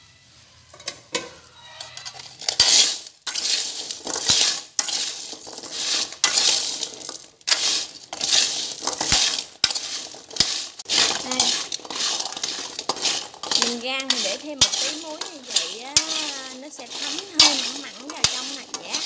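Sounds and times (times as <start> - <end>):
spoon scraping salt in a wok: 0.6 - 19.0
nuts clicking against pan: 2.0 - 19.0.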